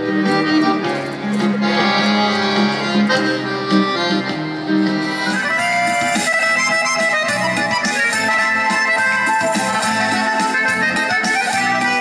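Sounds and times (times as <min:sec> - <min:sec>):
accordion playing: 0:00.0 - 0:12.0.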